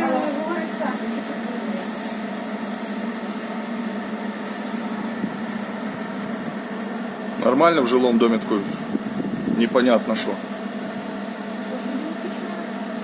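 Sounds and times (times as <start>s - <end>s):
exhaust fan whooshing: 0.0s - 13.0s.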